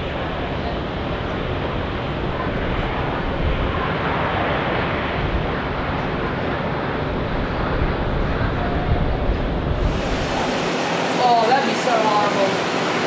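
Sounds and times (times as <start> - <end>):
distant jet aircraft: 0.0 - 13.0
wind on microphone: 0.0 - 13.0.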